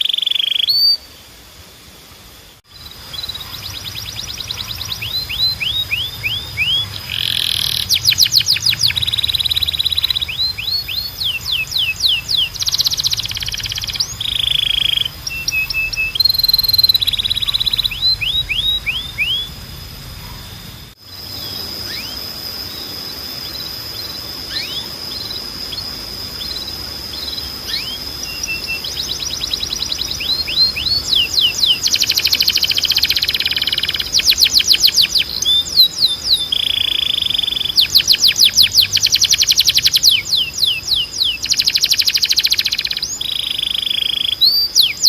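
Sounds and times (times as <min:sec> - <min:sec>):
canary singing trills: 0:00.0 - 0:01.4, 0:02.6 - 0:45.0.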